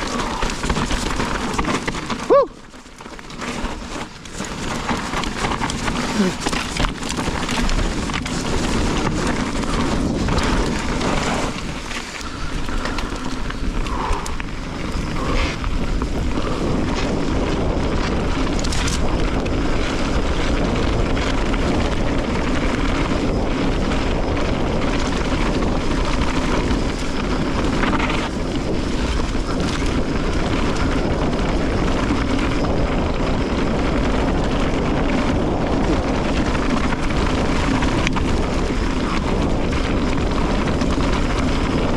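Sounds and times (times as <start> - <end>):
bike tyres on rough trail: 0.0 - 41.9
wind on microphone: 0.0 - 41.9.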